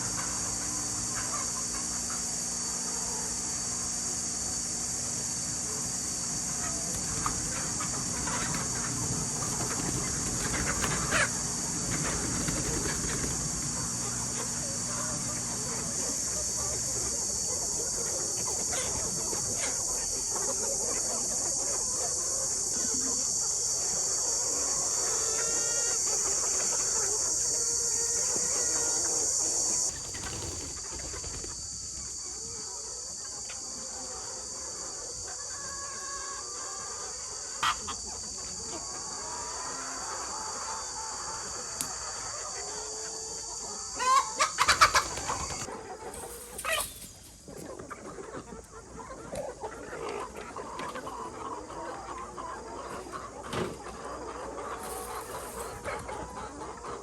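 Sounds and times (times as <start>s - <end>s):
chickens clucking: 0.0s - 57.0s
steady high-pitched hiss: 0.0s - 57.0s.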